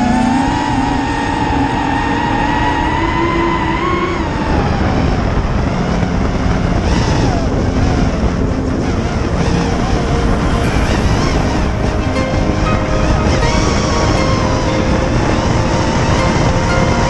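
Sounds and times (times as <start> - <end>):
drone propellers whining: 0.0 - 17.0
wind noise on microphone: 0.0 - 17.0.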